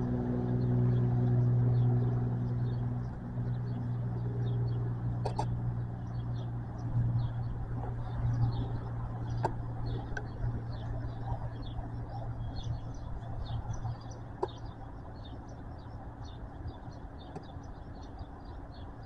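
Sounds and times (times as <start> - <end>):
distant turboprop plane drone: 0.0 - 19.0
birds chirping: 3.5 - 19.0.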